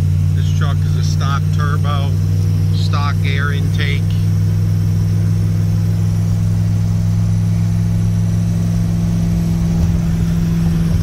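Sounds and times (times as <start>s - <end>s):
engine and road noise drone: 0.0s - 11.0s.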